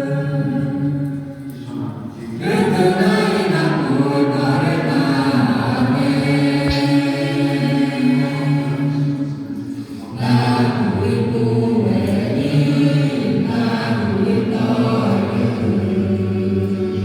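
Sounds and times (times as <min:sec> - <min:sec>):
voices chanting together: 0:00.0 - 0:17.0.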